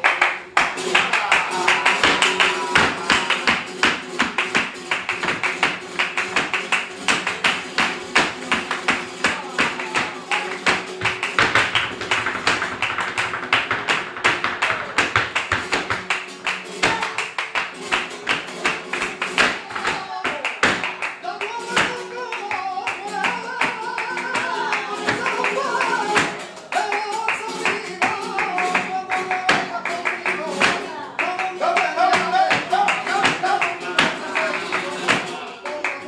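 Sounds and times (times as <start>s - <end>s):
dancer's percussive footwork: 0.0s - 31.4s, 32.0s - 35.4s
flamenco guitar: 0.0s - 36.0s
hand-clapping: 0.0s - 36.0s.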